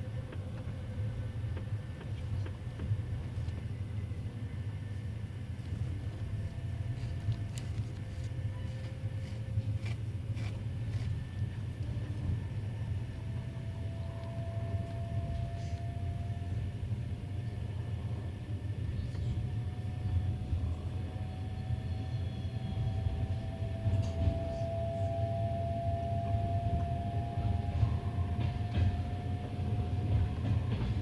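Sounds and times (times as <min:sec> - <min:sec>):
train low rumble: 0:00.0 - 0:31.0.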